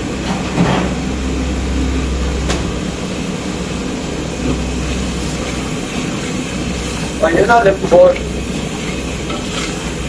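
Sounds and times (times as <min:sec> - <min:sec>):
gas burner hissing: 0:00.0 - 0:10.0.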